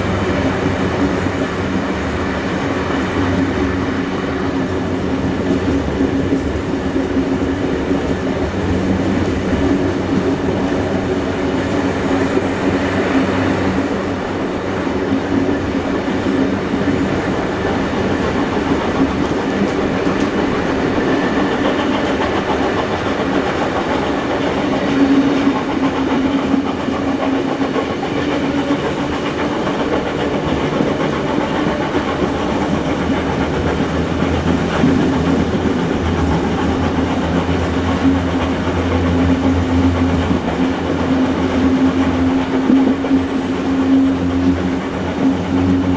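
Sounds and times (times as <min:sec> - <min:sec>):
train wheels rolling on rails: 0:00.0 - 0:45.9.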